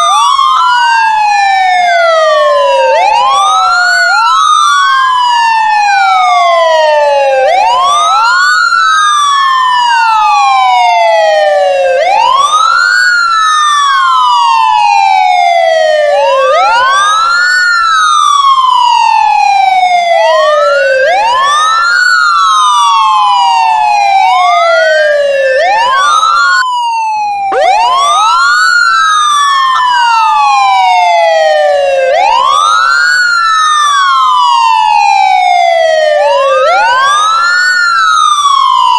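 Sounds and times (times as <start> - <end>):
ambulance siren wailing: 0.0 - 38.9.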